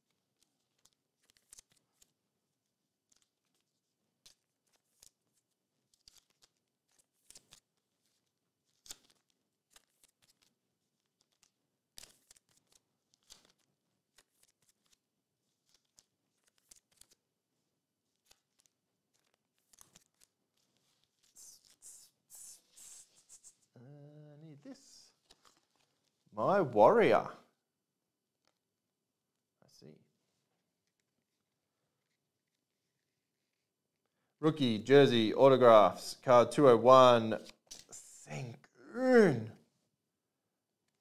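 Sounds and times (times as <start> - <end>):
trading cards and plastic sleeves handled: 0.0 - 23.7, 24.6 - 27.1, 28.3 - 28.7, 30.2 - 34.2, 34.9 - 38.5.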